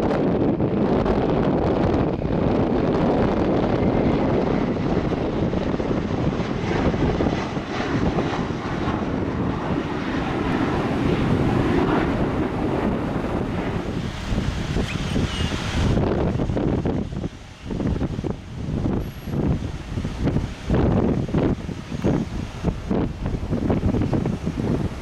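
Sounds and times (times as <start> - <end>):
airliner engines rushing: 0.0 - 25.0
wind on microphone: 0.0 - 25.0.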